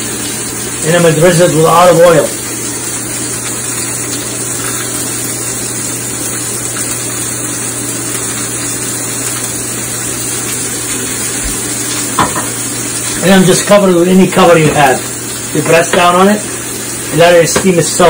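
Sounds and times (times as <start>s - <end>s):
steaks sizzling in a pan: 0.0s - 18.0s.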